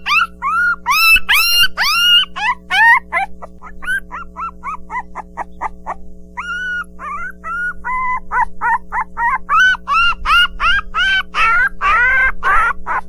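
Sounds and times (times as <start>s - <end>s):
puppy crying: 0.0s - 13.0s.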